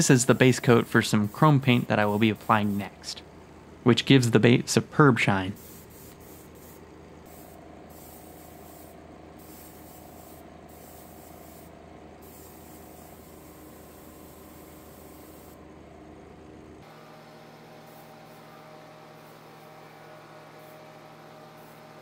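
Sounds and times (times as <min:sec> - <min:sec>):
airbrush spraying hiss: 0:00.0 - 0:03.2, 0:05.6 - 0:15.6, 0:17.0 - 0:22.0
fan humming low: 0:00.0 - 0:22.0.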